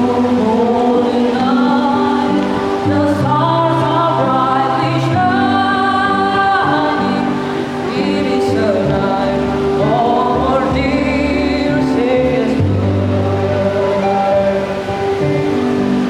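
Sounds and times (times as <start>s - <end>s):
children's choir singing: 0.0s - 15.8s.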